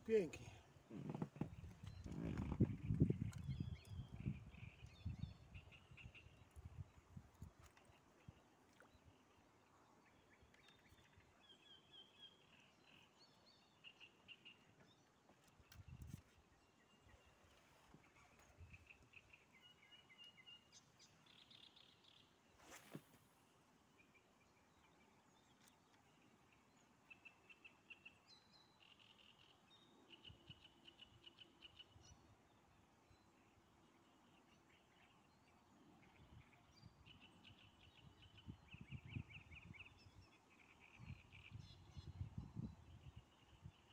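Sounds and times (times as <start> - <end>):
faint small birds chirping: 0.0 - 43.9.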